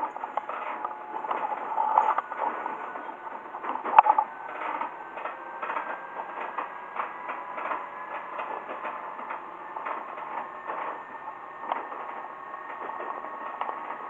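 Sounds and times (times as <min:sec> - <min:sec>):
high whining tones: 0:00.0 - 0:12.1
diesel railcar running: 0:00.0 - 0:14.0.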